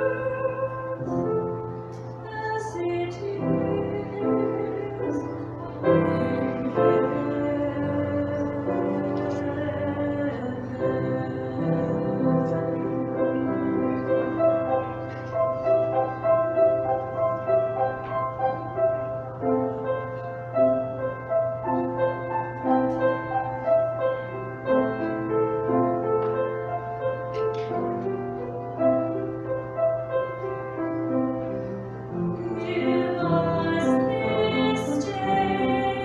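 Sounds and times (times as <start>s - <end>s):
slow keyboard music: 0.0s - 36.0s.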